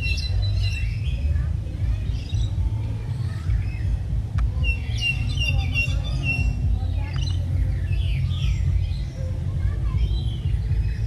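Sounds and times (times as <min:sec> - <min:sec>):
birds chirping and calling: 0:00.0 - 0:11.0
steady low rumble: 0:00.0 - 0:11.0.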